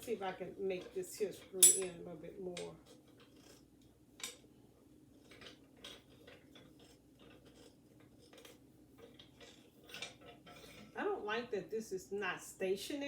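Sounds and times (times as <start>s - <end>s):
faint clicks and scrapes of handling: 0.0s - 11.2s.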